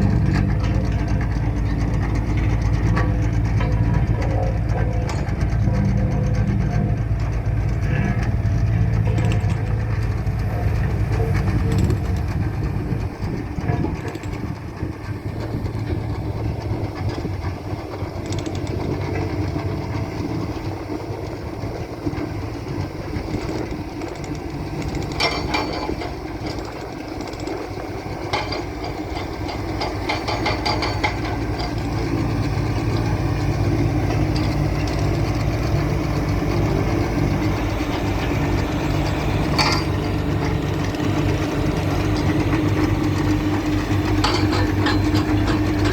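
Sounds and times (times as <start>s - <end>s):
road roller diesel engine running: 0.0s - 45.9s.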